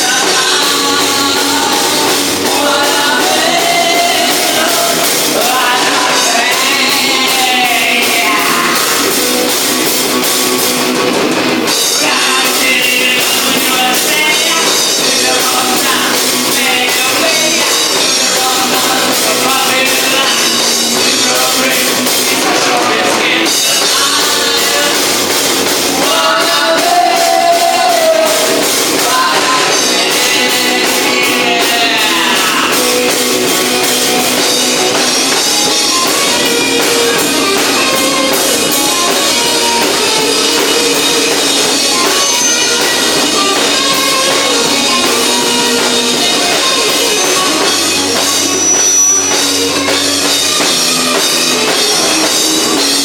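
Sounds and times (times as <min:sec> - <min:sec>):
person singing: 0:00.0 - 0:10.6, 0:11.6 - 0:53.0
drum kit: 0:00.0 - 0:53.0
electric guitars: 0:00.0 - 0:53.0
punk rock band playing: 0:00.0 - 0:53.0.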